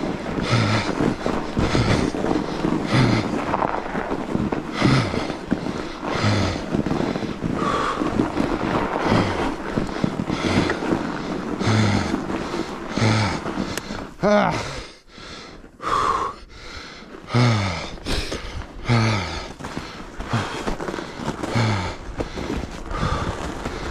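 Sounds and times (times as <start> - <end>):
person breathing hard: 0.0 - 23.9
tyres rolling over snow: 0.0 - 23.9.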